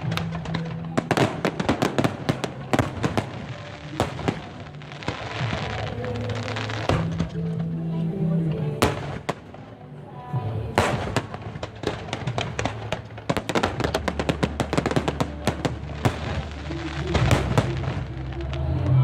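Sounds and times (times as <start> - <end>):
fireworks bangs and crackles: 0.0 - 7.8, 8.7 - 19.0
music playing: 0.0 - 19.0.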